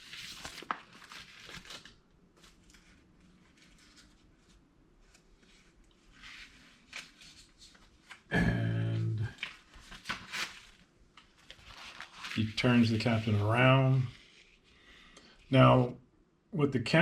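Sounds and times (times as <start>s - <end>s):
rustling of plastic sheets: 0.0s - 8.3s, 9.0s - 14.6s.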